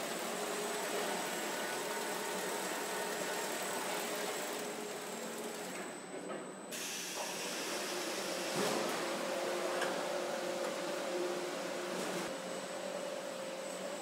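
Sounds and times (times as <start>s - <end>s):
assembly line machinery hum: 0.0s - 14.0s.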